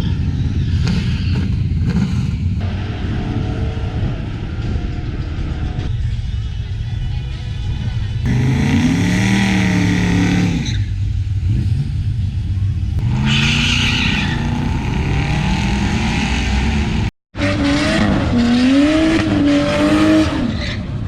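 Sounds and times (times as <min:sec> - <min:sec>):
drag racing car engines revving: 0:00.0 - 0:06.1, 0:08.2 - 0:21.0.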